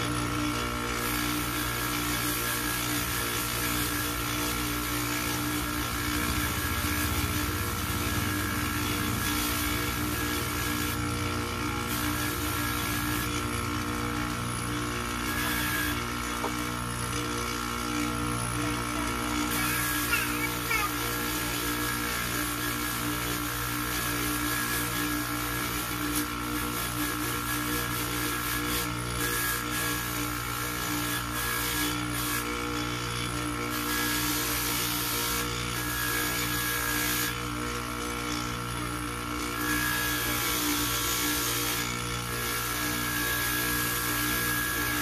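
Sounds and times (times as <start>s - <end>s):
polishing motor humming: 0.0s - 32.7s, 33.3s - 45.0s.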